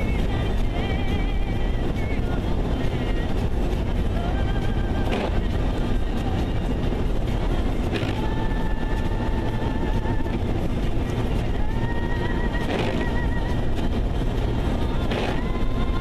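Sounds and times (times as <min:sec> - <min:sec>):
vehicle driving rumble: 0:00.0 - 0:16.0.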